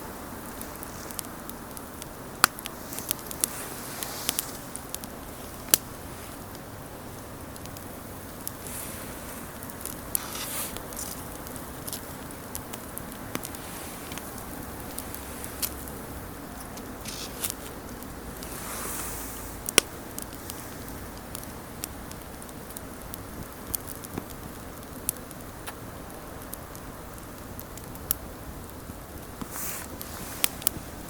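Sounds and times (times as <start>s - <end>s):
campfire crackling and popping: 0.0s - 31.0s
rush of flame: 0.0s - 31.0s.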